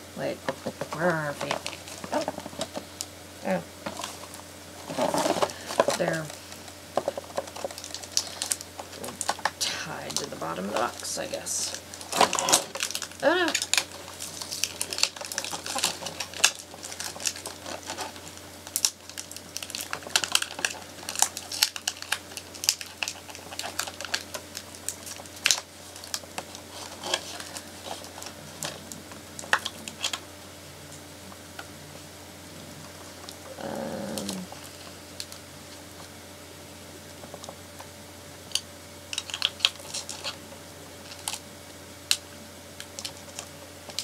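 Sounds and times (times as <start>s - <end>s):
cardboard and plastic crinkling: 0.4s - 31.7s, 37.0s - 41.5s, 42.1s - 44.0s.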